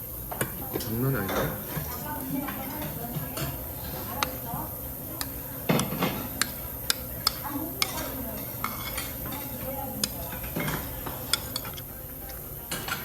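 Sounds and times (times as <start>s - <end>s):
metal utensils clinking on dishes: 0.7s - 4.4s, 5.2s - 13.0s.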